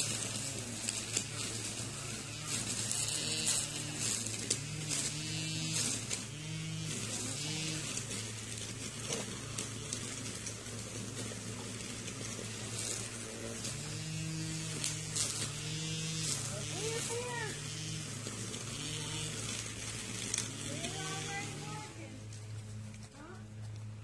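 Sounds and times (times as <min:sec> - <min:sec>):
small engine throttling: 0:00.0 - 0:24.0.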